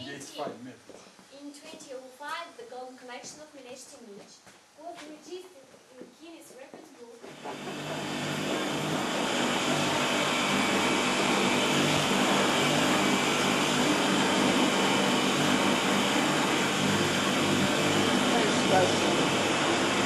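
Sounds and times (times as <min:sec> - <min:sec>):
fan whirring with low hum: 0:00.0 - 0:20.0.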